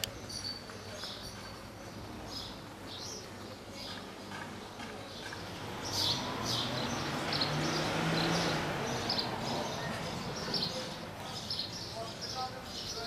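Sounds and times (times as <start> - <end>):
small birds chirping: 0.0 - 13.0
rushing outdoor noise: 1.9 - 13.0.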